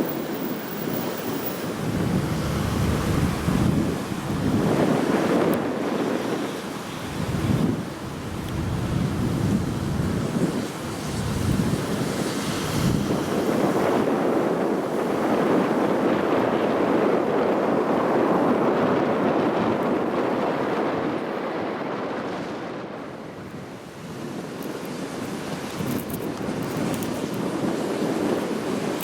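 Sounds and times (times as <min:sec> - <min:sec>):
gusty wind buffeting microphone: 0:00.0 - 0:29.0.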